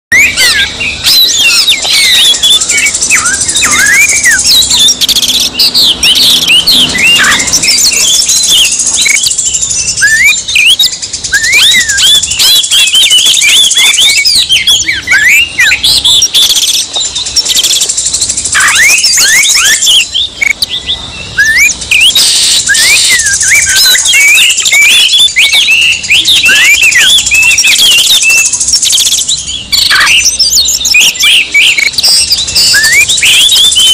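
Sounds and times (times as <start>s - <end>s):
bird singing whistles and trills: 0.1s - 33.9s.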